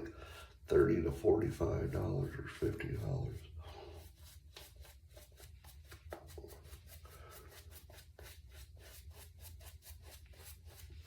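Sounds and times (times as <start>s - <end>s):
shaving brush wet swishing: 0.0s - 11.0s.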